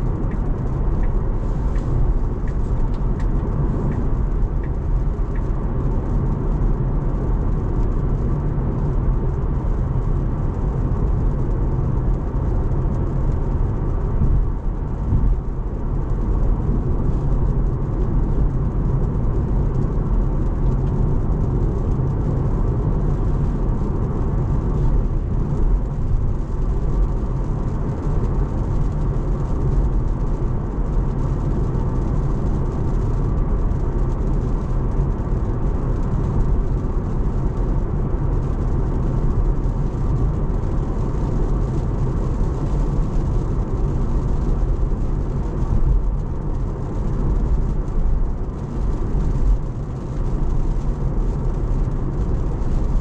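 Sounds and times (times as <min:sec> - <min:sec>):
tyre and road noise: 0:00.0 - 0:53.0.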